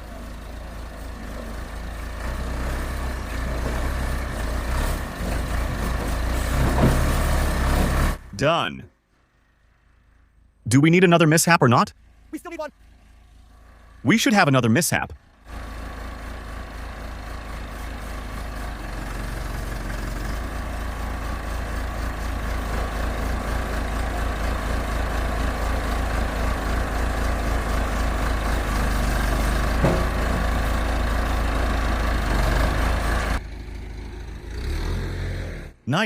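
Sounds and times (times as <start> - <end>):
diesel engine rumbling: 0.0 - 36.0.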